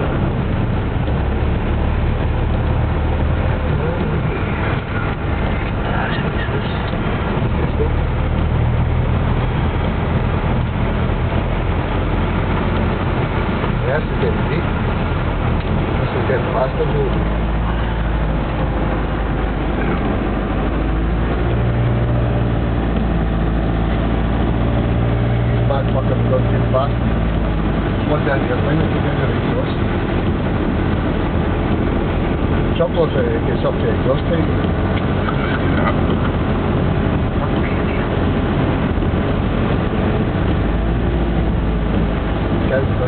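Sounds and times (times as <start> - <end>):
car engine rumble: 0.0 - 43.0.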